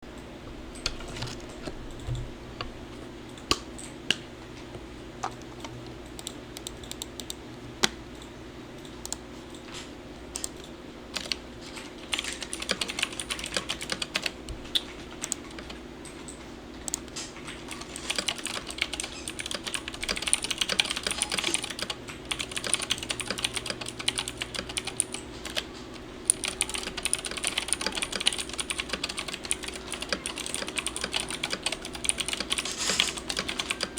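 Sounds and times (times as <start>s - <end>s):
clicky mechanical keyboard typing: 5.2s - 9.7s, 10.3s - 33.9s.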